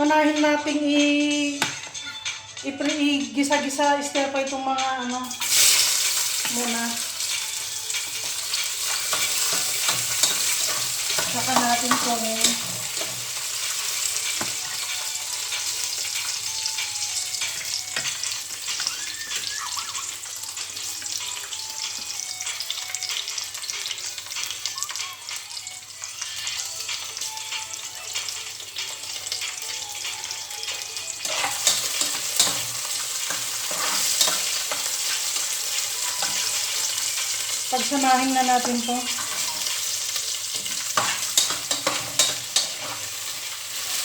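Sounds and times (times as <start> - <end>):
aromatics sizzling in hot oil: 5.2 - 44.0.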